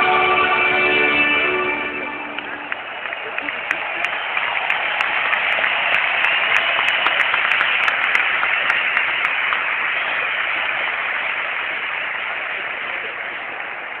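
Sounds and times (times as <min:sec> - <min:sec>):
stadium crowd applauding: 0:01.4 - 0:14.0.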